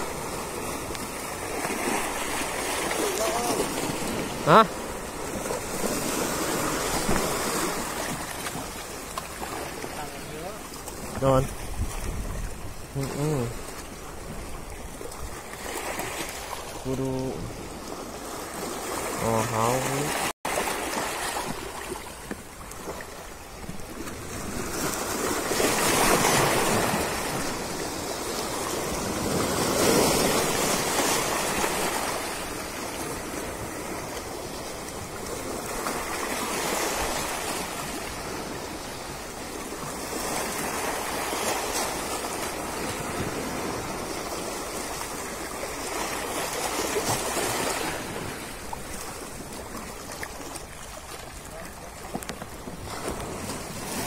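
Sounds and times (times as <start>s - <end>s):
small waves washing over rocks: 0.0s - 54.0s.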